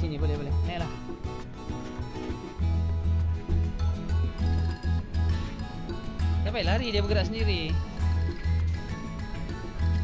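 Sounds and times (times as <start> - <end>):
music with pulsing bass line: 0.0 - 10.0.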